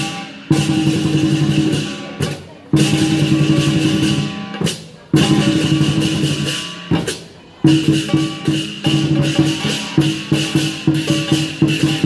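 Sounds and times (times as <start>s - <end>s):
drum cymbals and gong beat: 0.0s - 12.0s.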